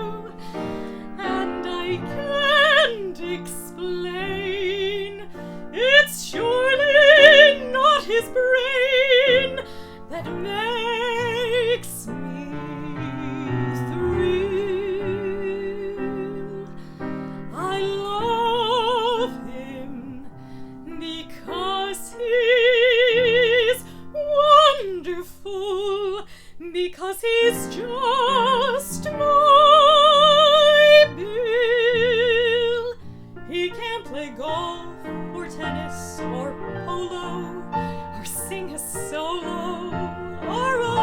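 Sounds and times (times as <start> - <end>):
piano accompaniment: 0.0 - 41.0
woman singing operatically: 0.0 - 41.0.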